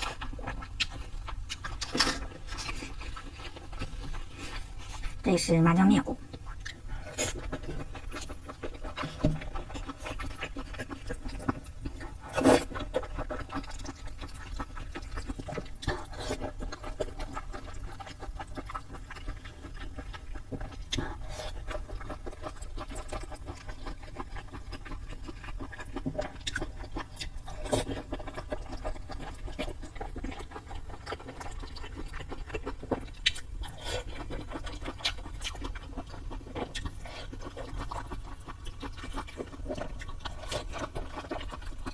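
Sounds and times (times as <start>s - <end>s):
person chewing: 0.0s - 5.2s, 6.2s - 41.9s.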